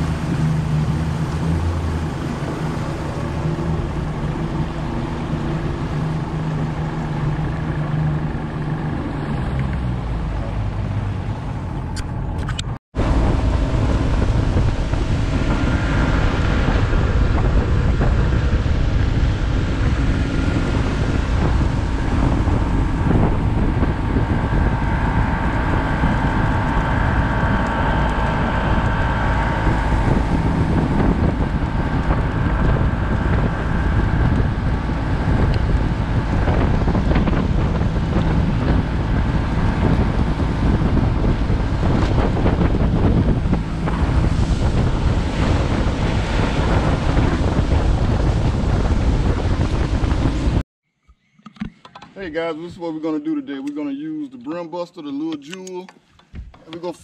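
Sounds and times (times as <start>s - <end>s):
outboard motor running: 0.0s - 50.6s
wind rushing over microphone: 0.0s - 50.6s.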